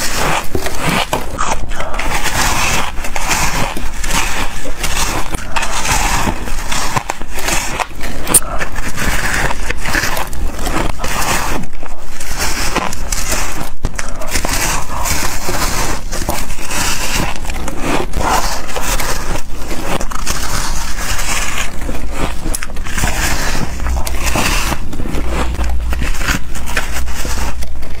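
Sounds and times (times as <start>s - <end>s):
crunching shaved ice: 0.0s - 28.0s.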